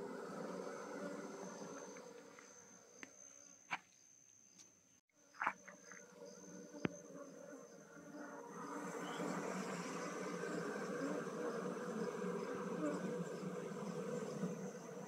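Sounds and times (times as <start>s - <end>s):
honeybee colony humming: 0.0s - 3.4s, 5.6s - 15.0s.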